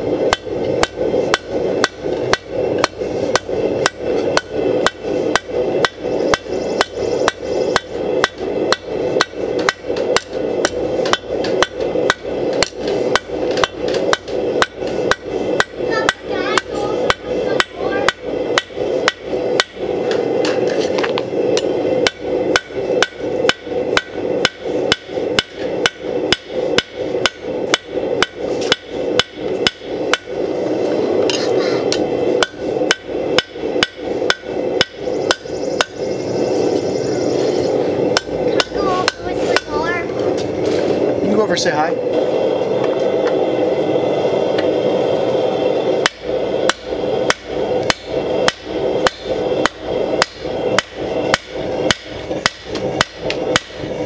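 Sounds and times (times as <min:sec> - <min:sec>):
steady drone: 0:00.0 - 0:54.0
hammer striking steel on anvil: 0:00.3 - 0:20.7, 0:21.6 - 0:30.4, 0:31.3 - 0:36.0, 0:38.1 - 0:39.8, 0:46.0 - 0:53.9.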